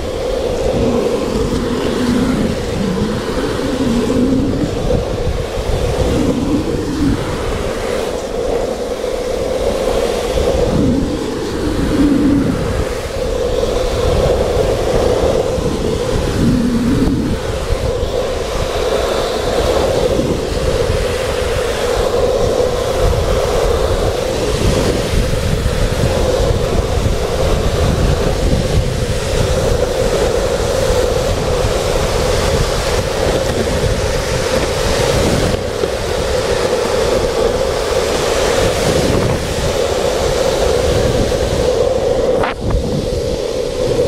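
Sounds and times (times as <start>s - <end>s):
longboard wheels rolling on asphalt: 0.0s - 44.0s
wind buffeting microphone: 0.0s - 44.0s.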